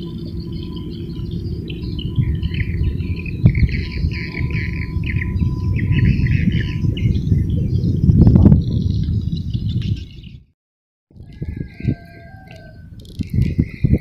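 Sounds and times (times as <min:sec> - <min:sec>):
birds chirping: 0:00.0 - 0:10.5, 0:11.2 - 0:14.0
wind rumble on microphone: 0:00.0 - 0:10.5, 0:11.1 - 0:14.0.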